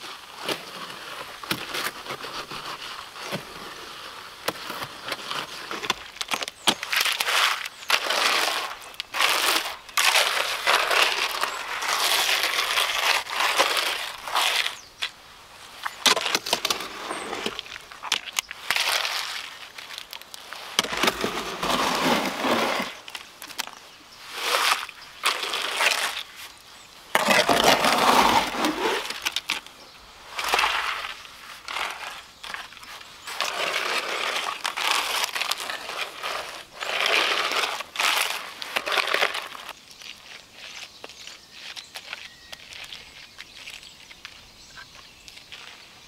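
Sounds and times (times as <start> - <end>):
shovel scraping wet concrete: 0.0 - 15.2, 15.8 - 29.7, 30.3 - 43.7.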